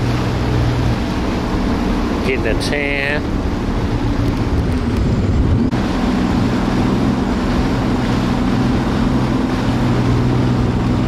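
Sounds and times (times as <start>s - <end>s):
water noise: 0.0s - 11.0s
watercraft engine running: 0.0s - 11.0s
wind: 0.0s - 11.0s.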